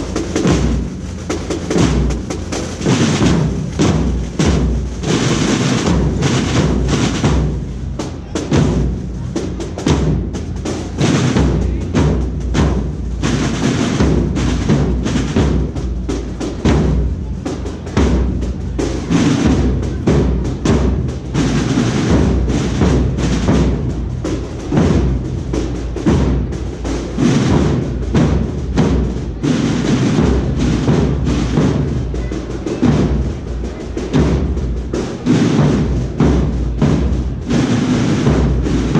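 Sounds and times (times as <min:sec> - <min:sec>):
drums beating steady rhythm: 0:00.0 - 0:38.9
processional band playing: 0:00.0 - 0:38.9.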